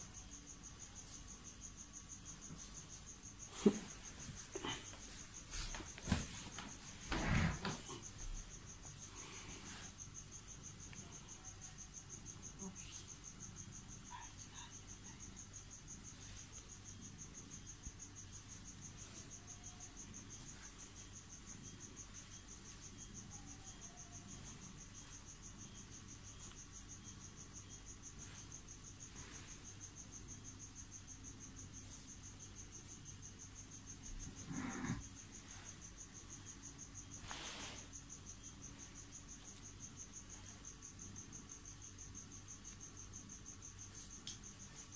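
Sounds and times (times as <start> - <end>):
cricket trilling: 0.0 - 44.9.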